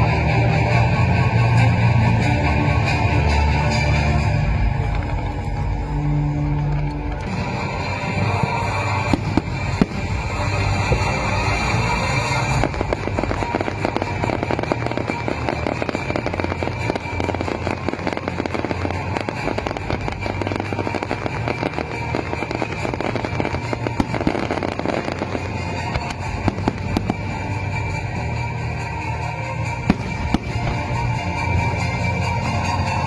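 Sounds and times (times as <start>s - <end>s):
music playing: 0.0s - 33.0s
fireworks crackling and popping: 3.6s - 33.0s.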